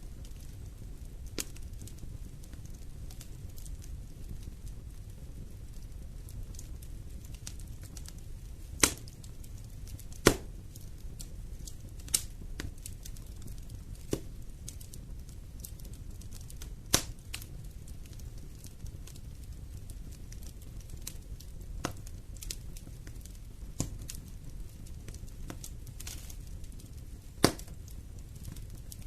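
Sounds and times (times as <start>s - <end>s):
faint fire crackling: 0.0s - 29.0s
fire flames rumbling: 0.0s - 29.0s
sharp fire pops: 0.0s - 29.0s.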